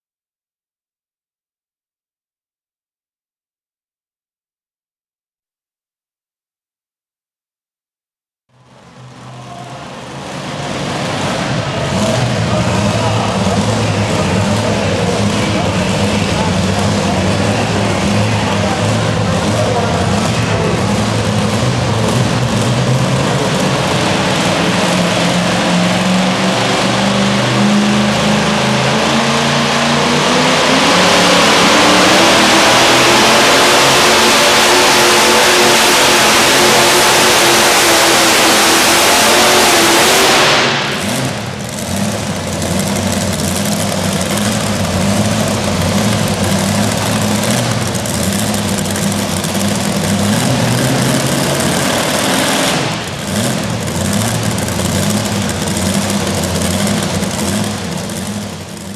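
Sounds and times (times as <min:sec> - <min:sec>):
truck engine at full throttle: 0:08.5 - 0:58.9.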